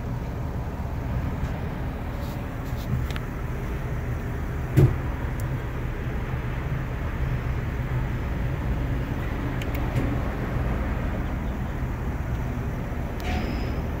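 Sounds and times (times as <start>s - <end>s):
van engine idling: 0.0s - 14.0s.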